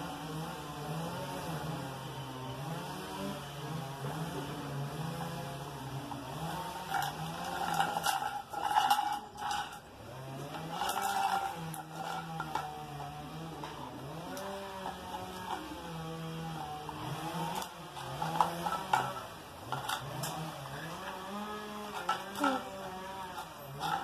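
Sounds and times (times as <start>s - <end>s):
motor droning: 0.0s - 24.0s
scraping and rattling bursts: 2.6s - 24.0s.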